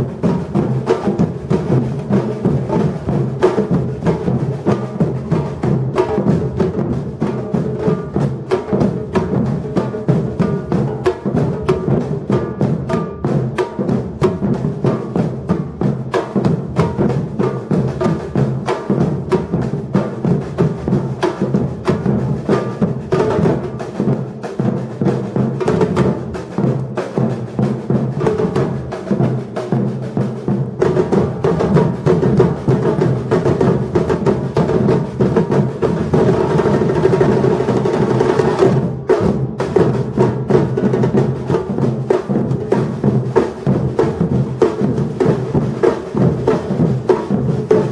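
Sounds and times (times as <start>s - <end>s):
drum ensemble playing: 0.0s - 47.9s.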